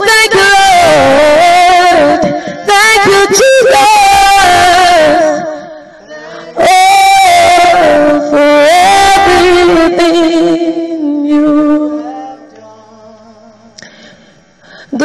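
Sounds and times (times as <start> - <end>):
woman singing slow gospel song: 0.0 - 14.0, 14.7 - 15.0.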